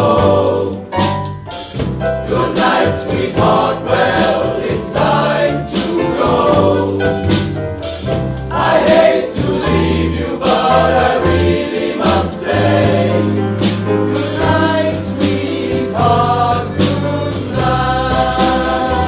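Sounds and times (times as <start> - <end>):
male choir singing in harmony: 0.0 - 1.2, 2.1 - 7.6, 8.4 - 19.0.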